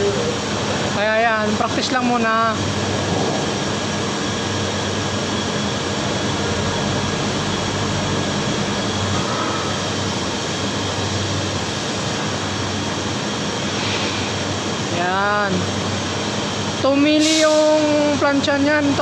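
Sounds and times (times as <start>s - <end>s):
welding equipment hum and hiss: 0.0s - 19.0s.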